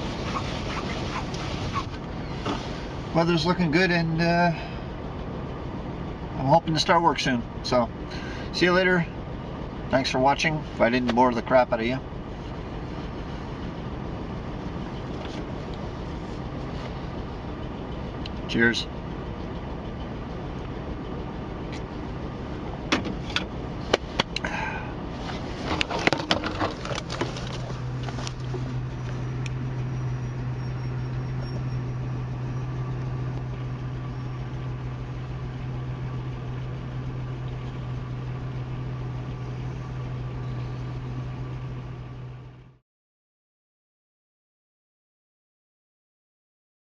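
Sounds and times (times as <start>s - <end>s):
steady low hum: 0.0s - 42.8s
truck engine idling: 0.0s - 42.8s.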